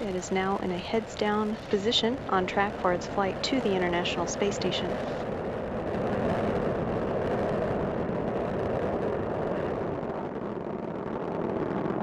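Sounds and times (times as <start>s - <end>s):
rocket engines rumbling: 0.0s - 12.0s.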